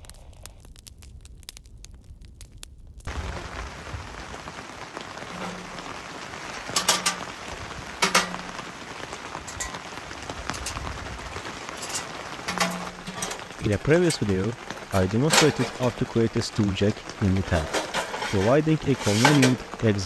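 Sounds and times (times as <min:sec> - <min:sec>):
rain on tent fabric: 0:00.0 - 0:20.0.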